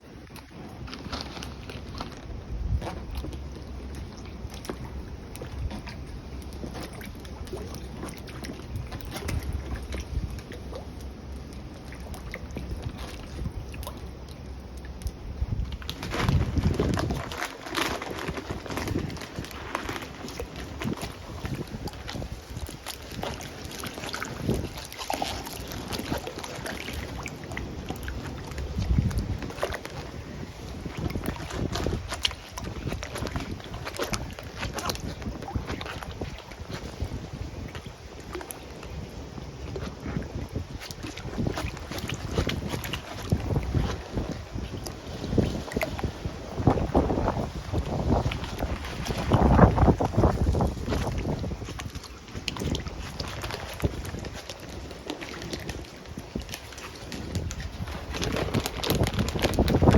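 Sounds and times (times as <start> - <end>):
water splashing: 0.0 - 59.9
wind buffeting microphone: 0.0 - 59.9.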